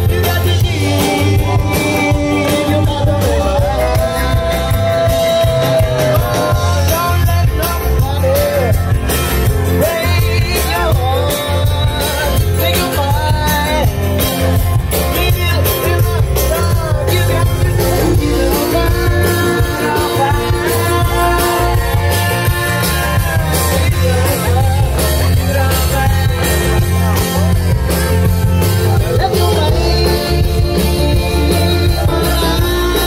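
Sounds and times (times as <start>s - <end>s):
acoustic guitars: 0.0s - 33.0s
lead singer: 0.0s - 33.0s
live band playing: 0.0s - 33.0s.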